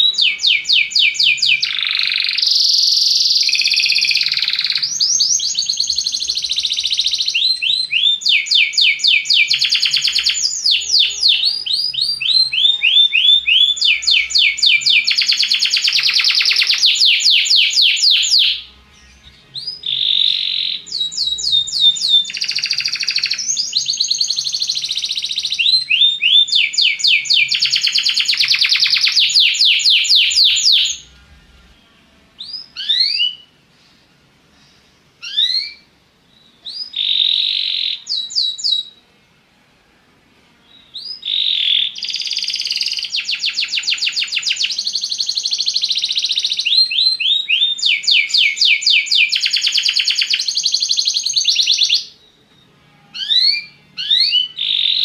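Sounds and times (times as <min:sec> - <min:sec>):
canary singing rapid trills: 0:00.0 - 0:31.1, 0:35.2 - 0:39.0, 0:40.8 - 0:52.2, 0:52.9 - 0:55.0.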